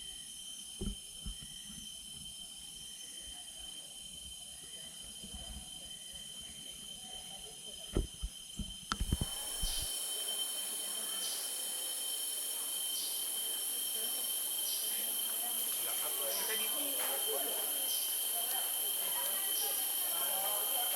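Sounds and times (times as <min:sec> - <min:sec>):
insects calling high-pitched: 0:00.0 - 0:20.9
short rasping insect pulses: 0:00.0 - 0:20.9.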